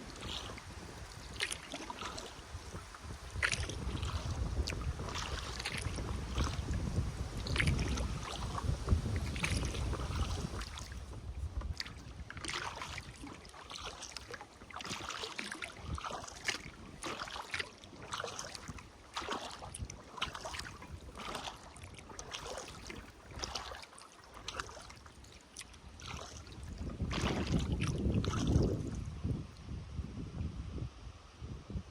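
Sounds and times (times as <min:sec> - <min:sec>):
wind rumbling on microphone: 0:00.0 - 0:23.8, 0:25.8 - 0:31.9
paddles splashing in river water: 0:00.0 - 0:29.4.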